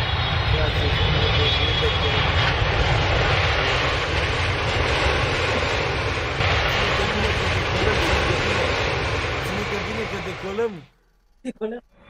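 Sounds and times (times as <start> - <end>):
jet airliner taking off: 0.0 - 11.3.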